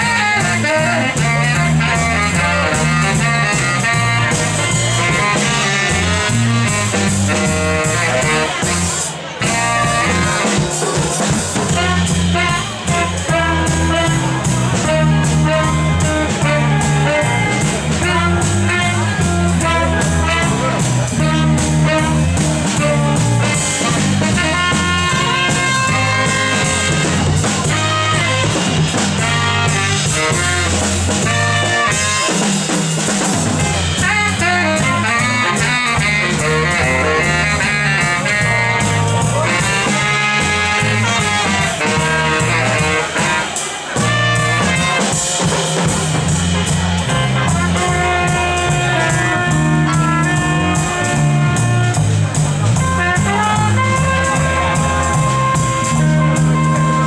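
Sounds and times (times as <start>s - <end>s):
live jazzy blues band playing: 0.0s - 57.0s.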